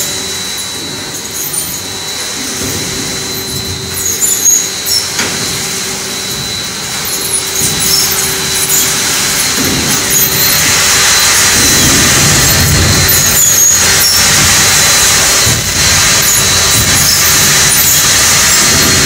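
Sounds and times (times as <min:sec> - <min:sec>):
popcorn coating machine running: 0:00.0 - 0:19.0.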